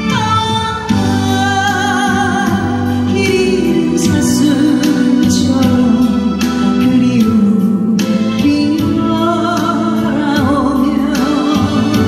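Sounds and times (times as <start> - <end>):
instrumental backing: 0.0 - 12.0
woman singing a ballad: 0.0 - 12.0.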